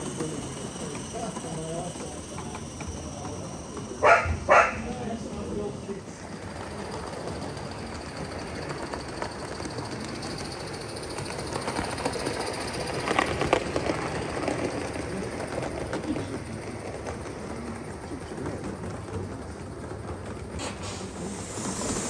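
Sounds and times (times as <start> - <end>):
model steam locomotive running: 0.0 - 22.0
wheels clicking over rails: 0.0 - 22.0.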